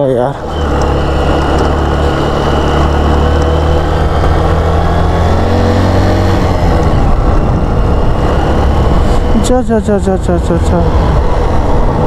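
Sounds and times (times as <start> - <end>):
road noise: 0.0 - 12.0
motorcycle engine running: 0.4 - 12.0.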